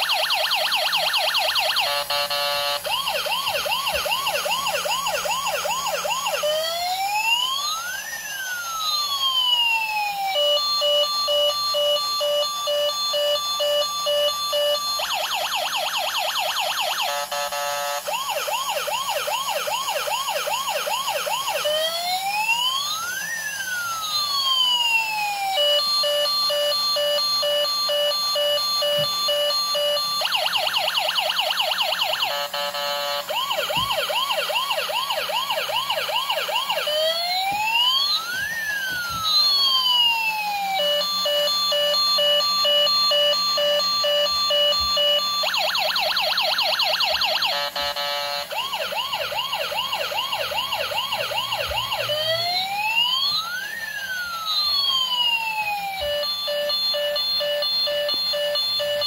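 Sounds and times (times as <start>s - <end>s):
toy electronic siren: 0.0s - 59.0s.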